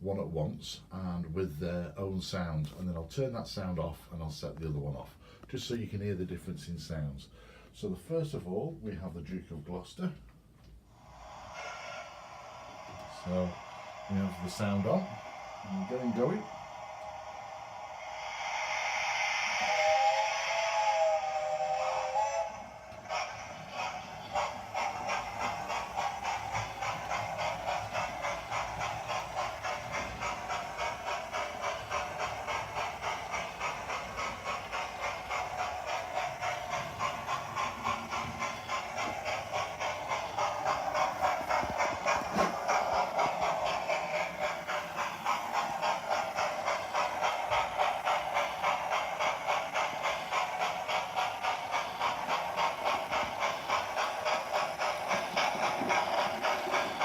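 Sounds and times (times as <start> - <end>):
steam engine chuffs through speaker: 10.9 - 57.0.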